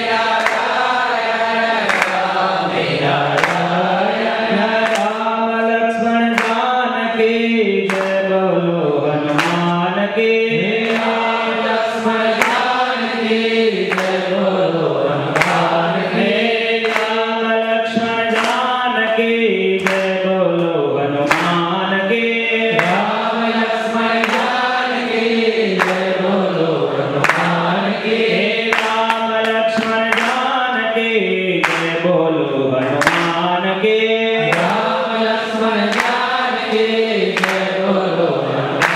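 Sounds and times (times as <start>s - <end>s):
man chanting into microphone: 2.2s - 38.9s.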